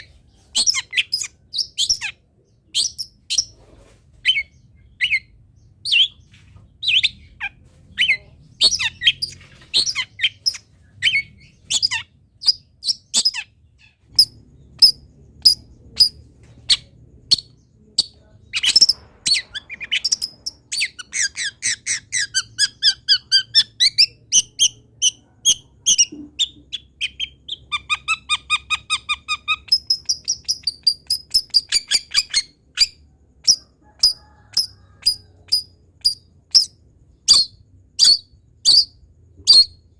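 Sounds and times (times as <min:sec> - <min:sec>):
shrike singing chirps and calls: 0:00.0 - 0:03.6, 0:04.2 - 0:39.9.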